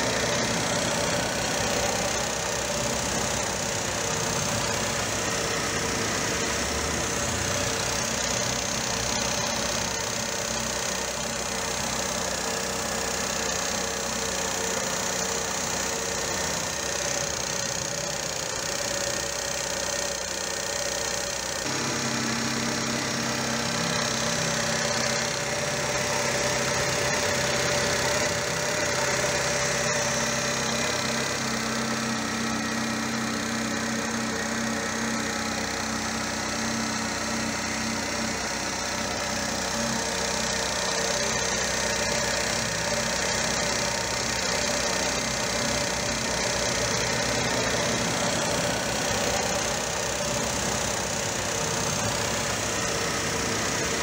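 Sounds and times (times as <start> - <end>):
petrol engine idling: 0.0 - 54.0.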